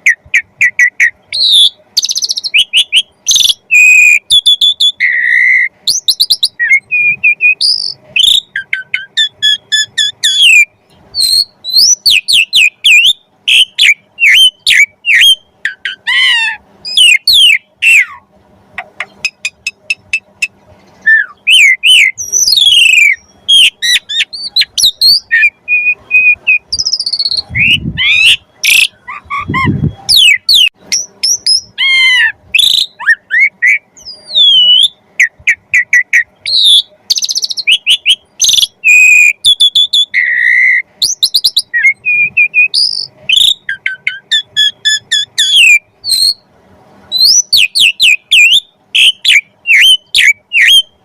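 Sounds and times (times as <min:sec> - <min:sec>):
starling singing: 0:00.0 - 0:46.5, 0:47.1 - 0:51.0.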